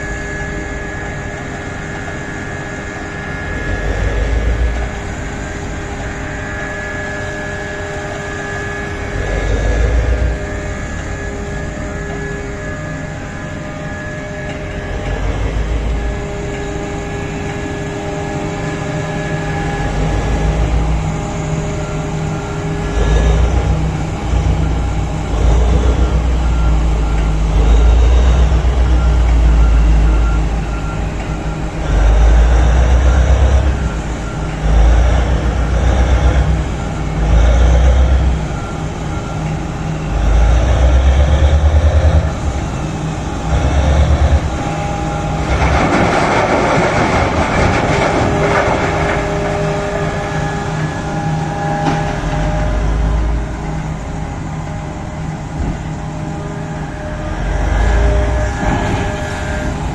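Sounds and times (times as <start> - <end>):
excavator engine droning: 0.0 - 59.9.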